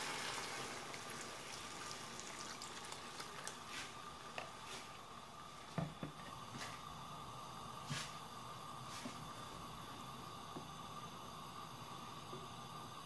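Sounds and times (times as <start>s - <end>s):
curry boiling in a pot: 0.0s - 13.0s.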